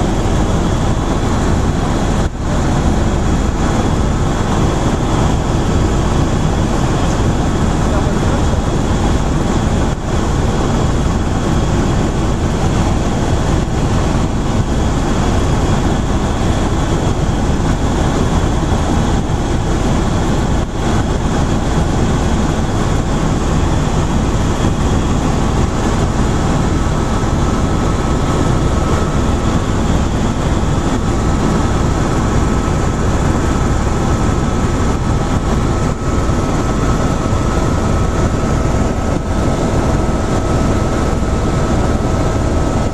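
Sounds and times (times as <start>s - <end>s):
helicopter drone in cabin: 0.0s - 42.9s.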